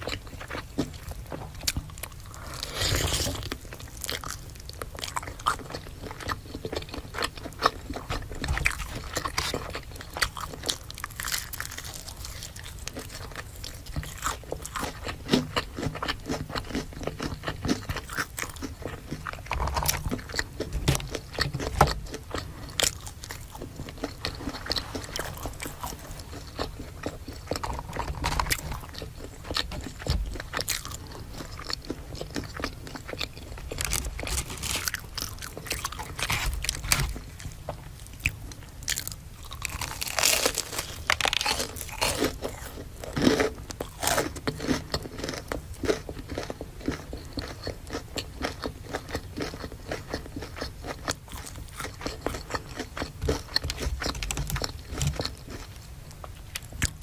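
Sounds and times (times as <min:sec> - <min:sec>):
crunchy chewing of fried food: 0:00.0 - 0:57.0.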